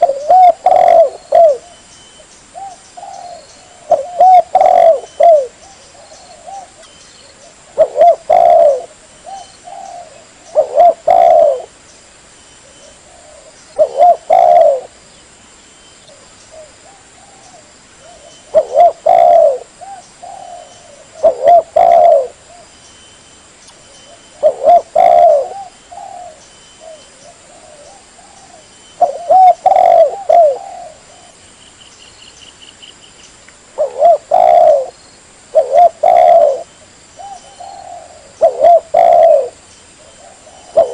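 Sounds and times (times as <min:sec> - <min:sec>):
dove cooing: 0:00.0 - 0:01.9, 0:02.5 - 0:11.8, 0:12.6 - 0:15.0, 0:16.1 - 0:22.7, 0:24.0 - 0:31.4, 0:33.8 - 0:40.9
faint bird chirps: 0:00.0 - 0:40.9.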